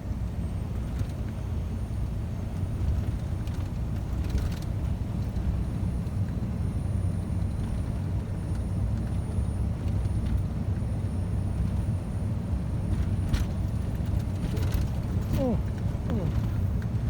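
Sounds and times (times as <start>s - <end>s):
truck engine rumble inside cab: 0.0s - 17.0s.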